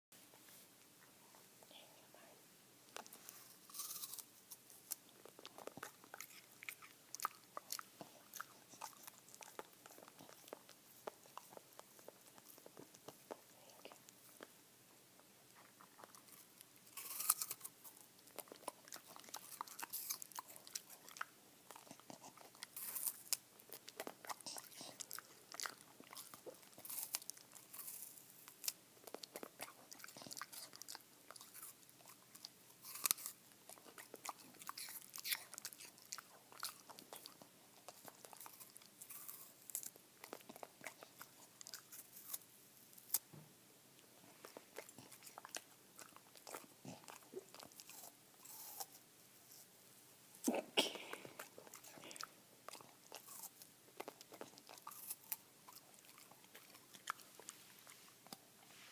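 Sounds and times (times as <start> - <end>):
dog crunching apple: 2.9 - 14.5, 15.5 - 43.3, 44.3 - 49.7, 50.4 - 58.6.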